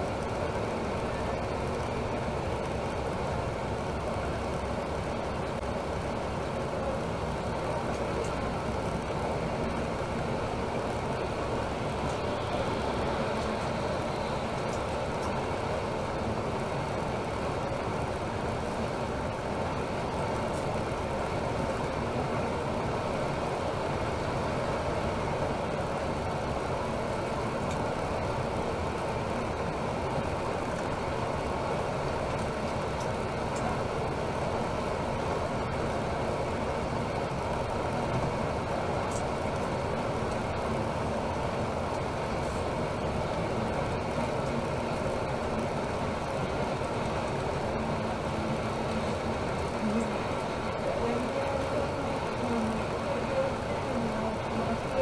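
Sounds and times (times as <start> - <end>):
bus engine and tyre drone: 0.0 - 55.0.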